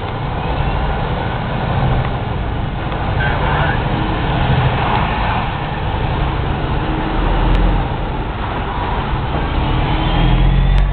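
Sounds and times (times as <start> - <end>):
tyres hissing on wet road: 0.4 - 10.8.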